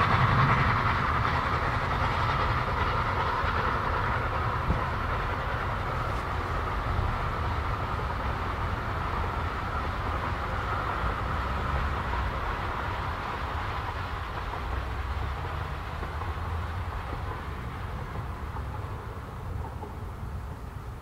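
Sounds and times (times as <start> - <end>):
steam train rumbling: 0.0 - 21.0.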